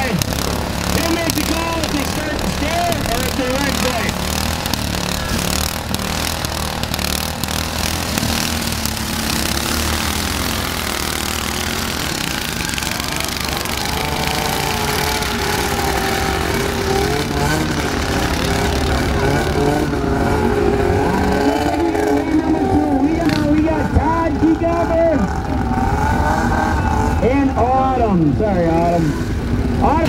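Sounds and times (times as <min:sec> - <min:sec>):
lawn mower engines idling: 0:00.0 - 0:30.0.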